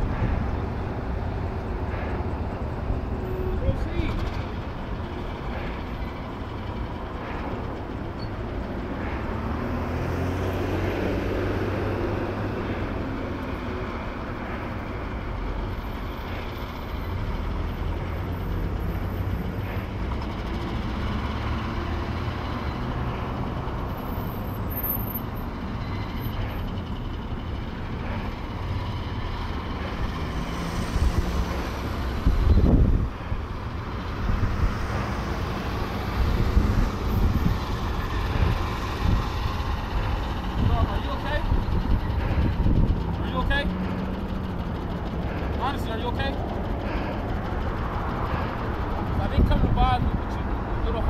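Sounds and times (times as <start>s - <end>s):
vehicle engine rumbling: 0.0s - 51.0s.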